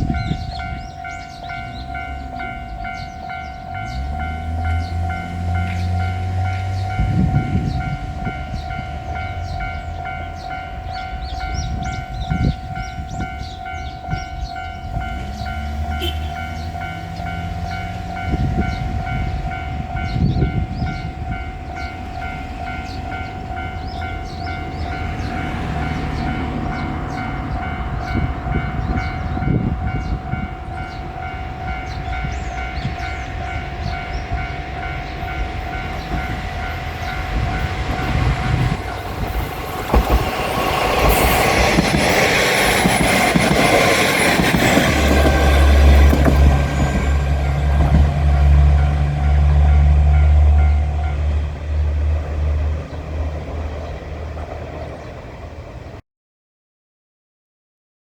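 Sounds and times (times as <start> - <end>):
level crossing alarm ringing: 0.0 - 51.6
diesel railcar engine: 0.0 - 56.0.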